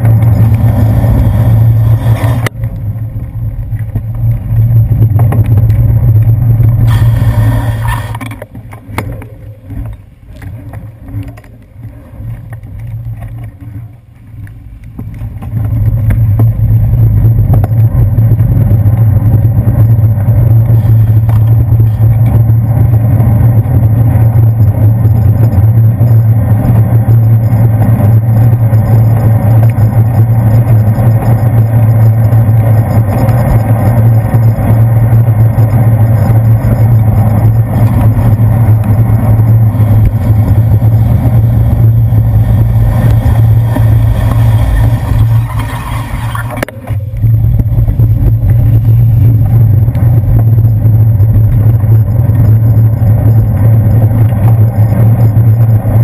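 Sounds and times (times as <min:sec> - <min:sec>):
bicycle road vibration: 0:00.0 - 0:56.0
wind rumble: 0:00.0 - 0:56.0.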